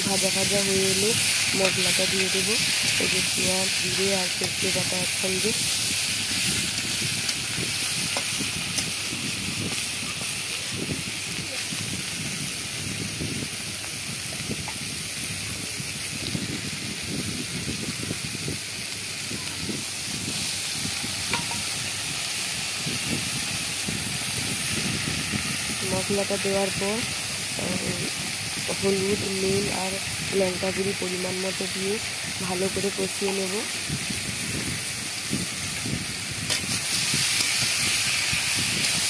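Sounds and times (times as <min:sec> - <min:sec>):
food frying in oil: 0:00.0 - 0:39.0.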